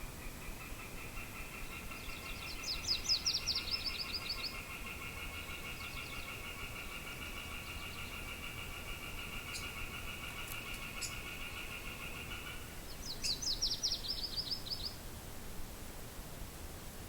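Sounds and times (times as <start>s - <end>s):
songbird singing down-slurred notes: 0.0s - 15.0s
light wind: 0.0s - 17.0s.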